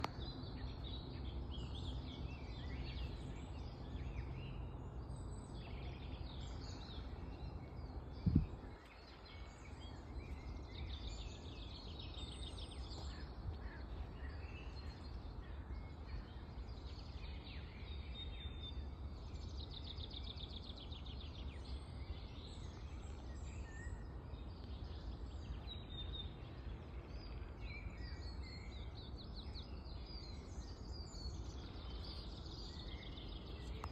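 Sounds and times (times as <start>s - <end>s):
songbirds singing and calling: 0.0s - 33.9s.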